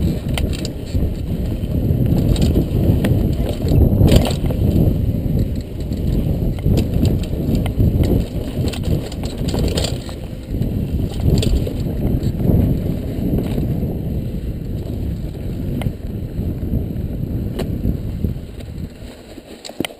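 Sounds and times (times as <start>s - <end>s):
wind on microphone: 0.0s - 19.5s
bike rattling over bumps: 0.0s - 19.9s
bike tyres rumbling on dirt: 0.0s - 19.9s.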